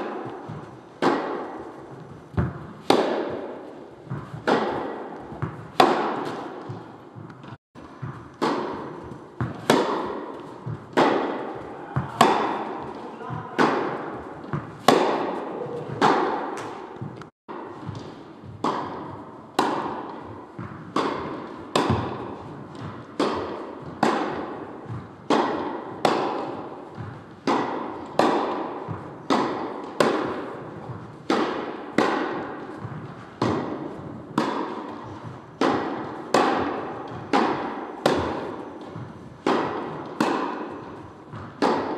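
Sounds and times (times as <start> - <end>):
tennis balls bouncing on court: 0.0 - 41.9
tennis balls struck by rackets: 0.0 - 41.9.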